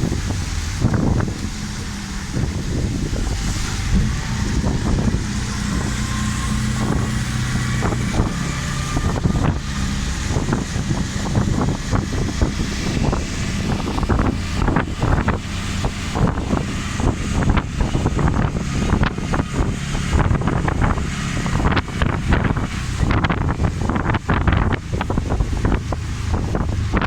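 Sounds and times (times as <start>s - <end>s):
vehicle engine hum: 0.0s - 27.0s
wind buffeting microphone: 0.0s - 27.0s.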